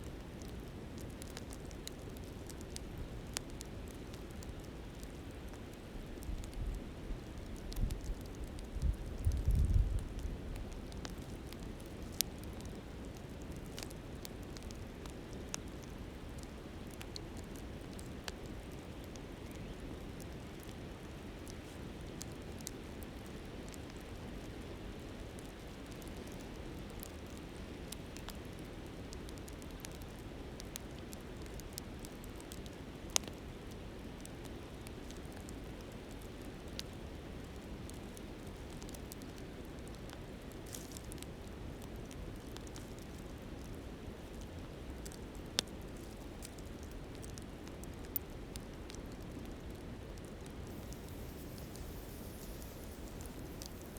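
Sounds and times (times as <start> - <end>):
campfire crackling and popping: 0.1 - 53.9.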